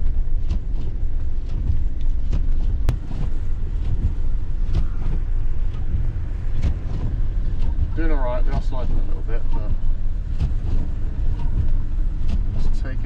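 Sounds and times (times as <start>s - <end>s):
van engine and tyres rumbling: 0.0s - 13.0s.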